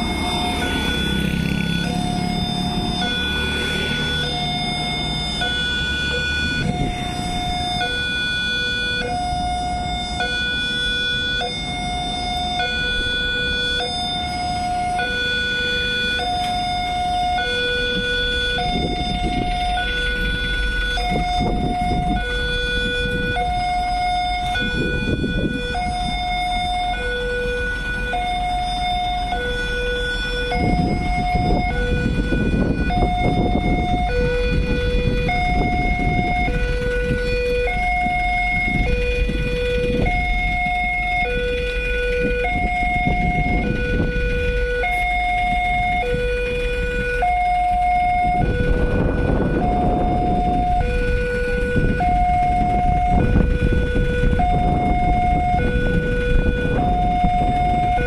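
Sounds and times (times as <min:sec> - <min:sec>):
level crossing two-tone alarm: 0:00.0 - 0:58.0.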